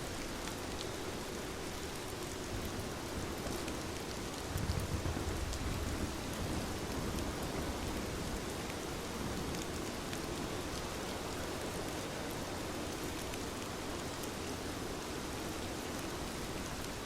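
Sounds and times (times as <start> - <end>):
heavy rain falling: 0.1 - 17.0.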